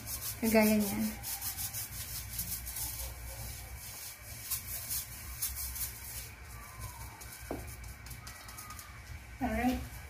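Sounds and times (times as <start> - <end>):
flour rubbed through mesh sieve: 0.0 - 10.0.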